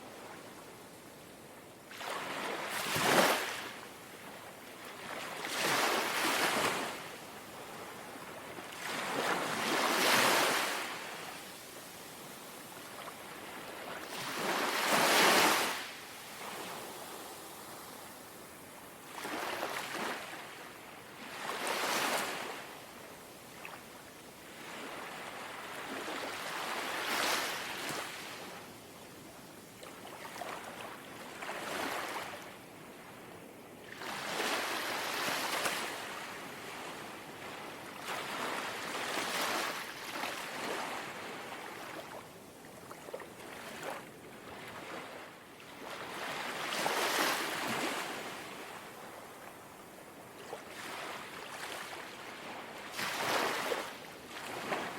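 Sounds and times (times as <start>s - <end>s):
waves lapping on shore: 1.9s - 3.8s, 5.0s - 23.8s, 24.4s - 28.6s, 33.8s - 54.9s.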